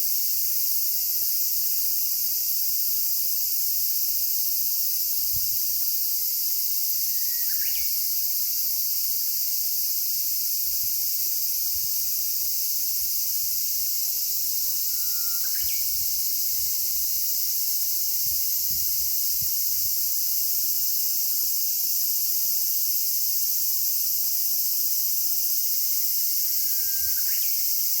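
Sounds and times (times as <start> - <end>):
cicadas droning: 0.0 - 28.0.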